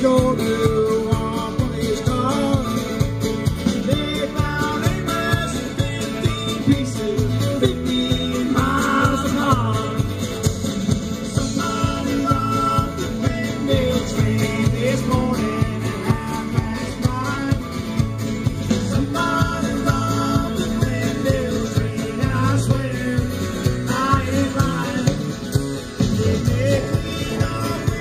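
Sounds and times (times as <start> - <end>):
live band playing country-rock: 0.0 - 28.0.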